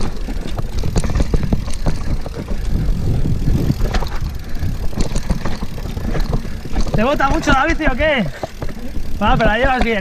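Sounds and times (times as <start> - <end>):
bike rattles and clicks: 0.0 - 10.0
bike rumbling over dirt: 0.0 - 10.0.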